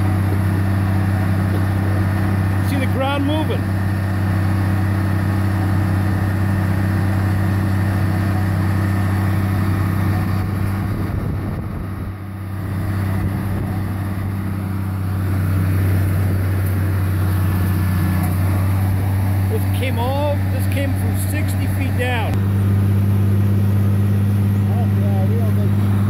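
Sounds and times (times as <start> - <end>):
drilling rig engine running: 0.0 - 26.0.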